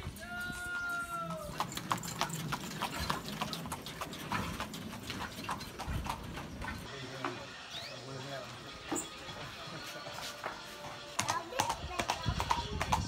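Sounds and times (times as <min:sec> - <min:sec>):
horse hooves clip-clopping: 0:00.1 - 0:07.5, 0:08.8 - 0:13.0.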